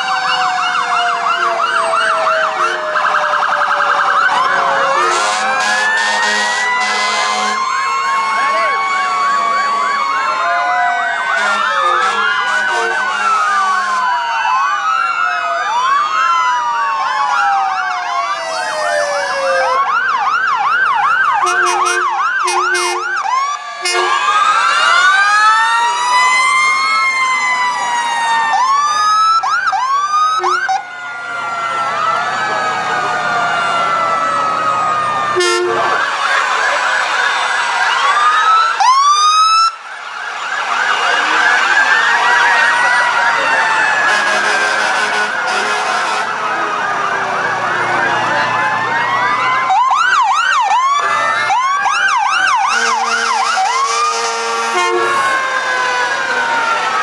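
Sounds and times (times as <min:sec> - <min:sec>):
emergency vehicle sirens: 0:00.0 - 0:57.0.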